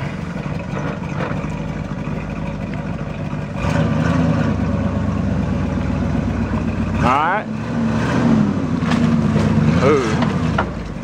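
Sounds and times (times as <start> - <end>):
pickup truck engine revving: 0.0 - 11.0.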